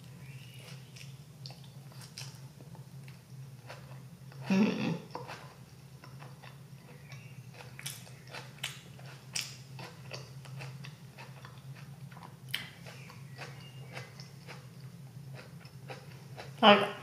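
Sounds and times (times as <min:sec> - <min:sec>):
person chewing food: 0:00.0 - 0:16.6
steady low hum: 0:00.0 - 0:17.0.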